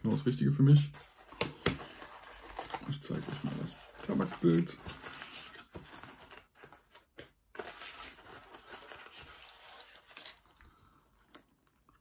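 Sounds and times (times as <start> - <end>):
tobacco packaging rustling: 0.9 - 12.0.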